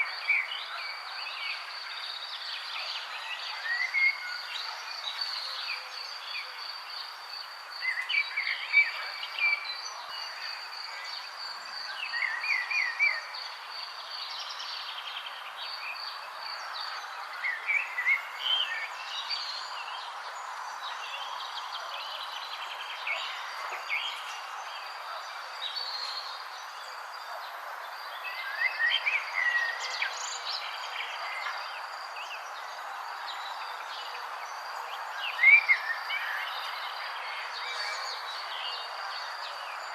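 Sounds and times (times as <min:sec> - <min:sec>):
songbirds chirping: 0:00.0 - 0:39.9
steady background hiss: 0:00.0 - 0:39.9.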